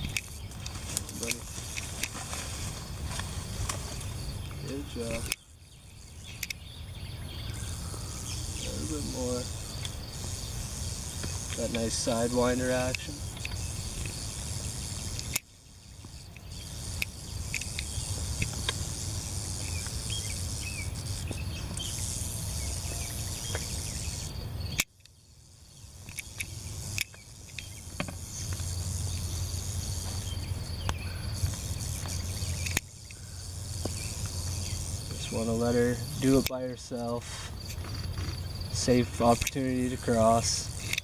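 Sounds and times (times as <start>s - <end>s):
crickets and insects chirping: 0.0s - 41.0s.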